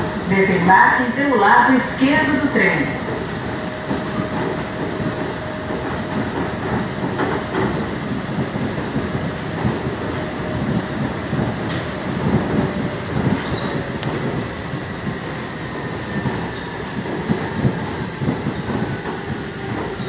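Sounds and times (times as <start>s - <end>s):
monorail car rumbling: 0.0s - 20.0s.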